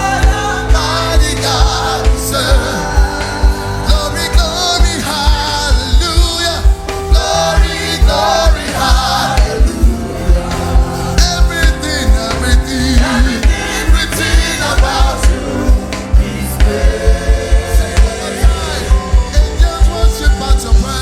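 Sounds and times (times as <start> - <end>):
voices singing: 0.0 - 6.0, 7.0 - 20.7
band playing: 0.0 - 21.0
bass drum beat: 0.0 - 21.0.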